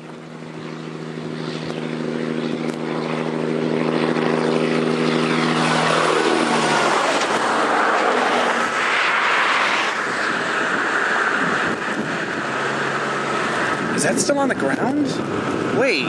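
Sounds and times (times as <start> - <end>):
vehicle engine hum passing: 0.0 - 15.8
road and wind noise rushing: 0.0 - 16.0.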